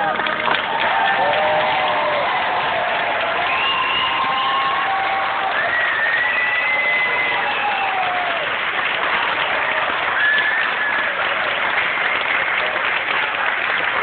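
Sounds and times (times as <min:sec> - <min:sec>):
high cheers: 0:00.0 - 0:13.5
audience applauding: 0:00.0 - 0:14.0.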